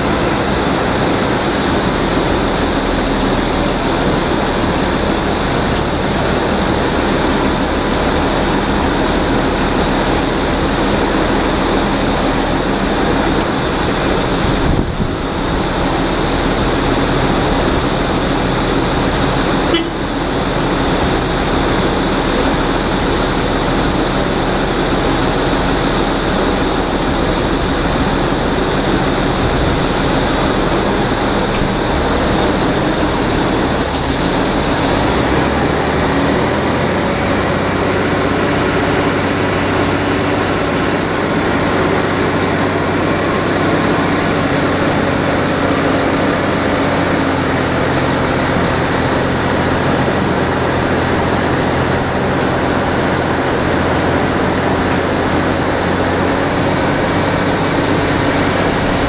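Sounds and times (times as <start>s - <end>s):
constant high whine: 0.0s - 59.0s
pushback tug machine drone: 0.0s - 59.0s.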